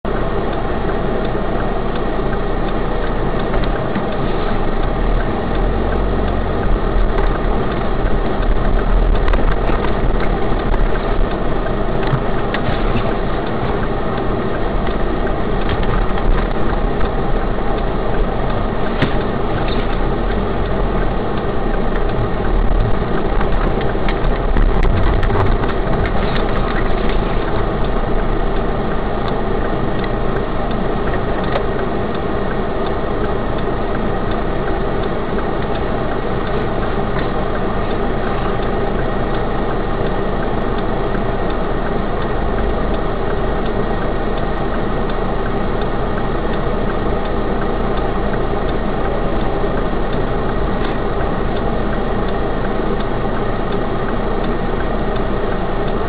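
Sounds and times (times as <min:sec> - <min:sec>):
car engine running: 0:00.0 - 0:56.0
road noise inside car: 0:00.0 - 0:56.0.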